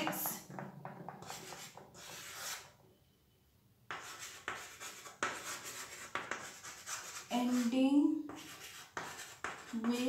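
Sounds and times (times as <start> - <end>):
chalk writing on chalkboard: 0.0 - 2.8, 3.9 - 10.0.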